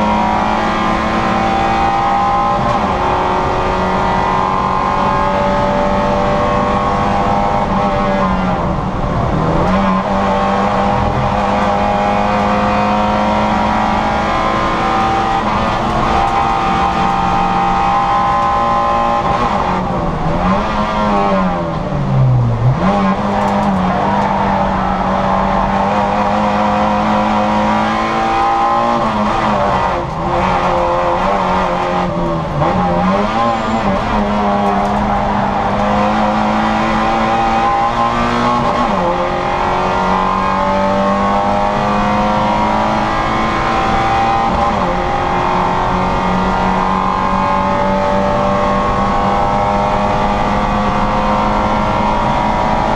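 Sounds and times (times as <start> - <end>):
car engine at high revs: 0.0 - 52.9.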